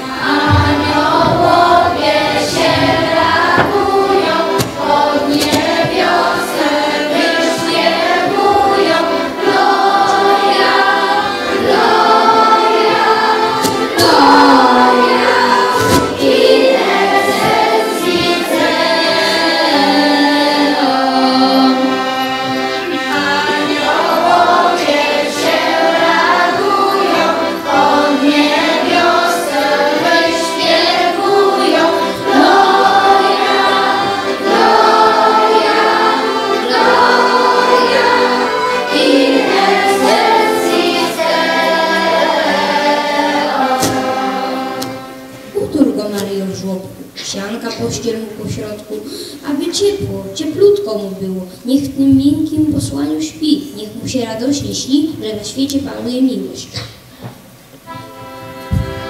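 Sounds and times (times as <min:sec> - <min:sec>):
children's choir singing: 0:00.0 - 0:50.8, 0:57.6 - 0:59.0.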